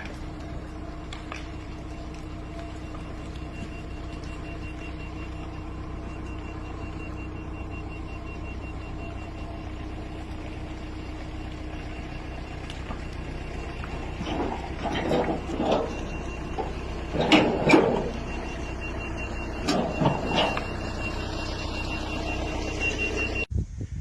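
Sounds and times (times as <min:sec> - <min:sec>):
engine and road hum: 0:00.0 - 0:23.8.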